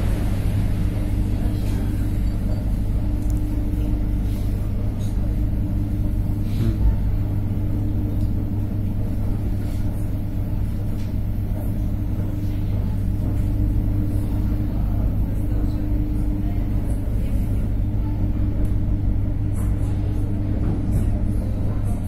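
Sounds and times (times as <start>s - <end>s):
constant hum: 0.0s - 22.0s
train rumbling in motion: 0.0s - 22.0s.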